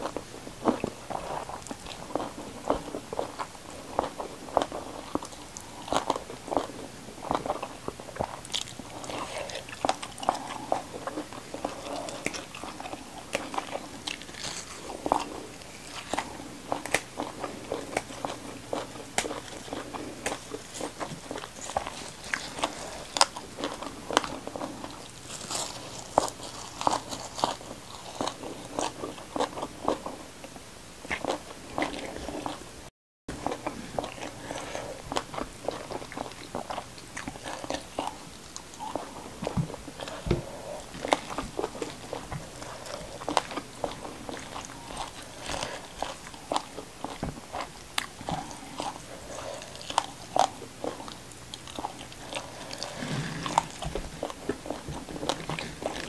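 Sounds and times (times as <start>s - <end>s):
chewing and crunching food: 0.0s - 56.0s.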